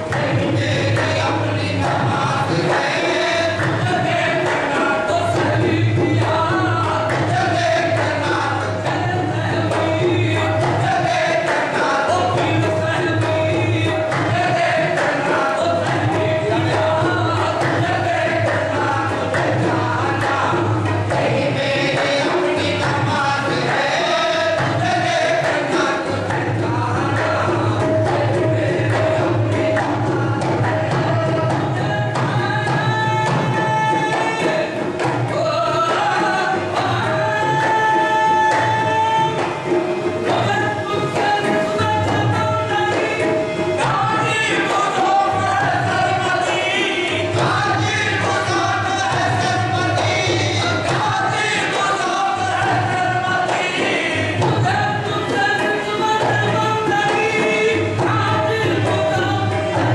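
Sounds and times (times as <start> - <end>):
group of voices singing: 0.0 - 59.9
percussion strikes: 0.0 - 59.9
rhythmic tabla: 0.0 - 59.9.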